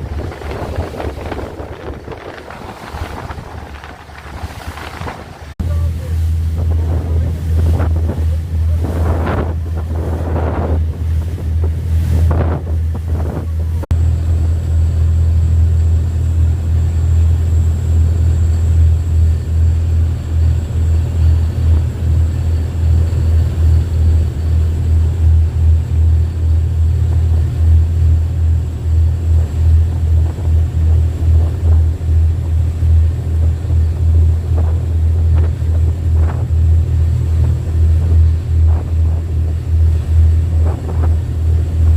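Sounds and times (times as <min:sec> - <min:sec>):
waves washing in: 0:00.0 - 0:41.9
wind buffeting microphone: 0:00.0 - 0:41.9.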